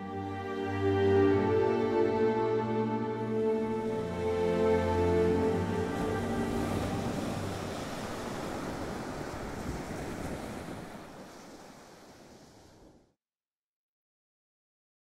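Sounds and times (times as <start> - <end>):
sea waves washing: 0.0 - 13.1.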